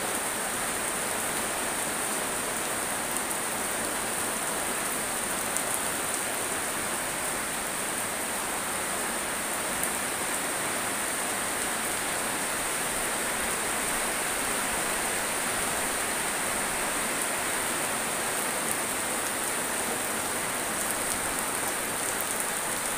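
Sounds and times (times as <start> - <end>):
heavy rain pouring: 0.0 - 22.9.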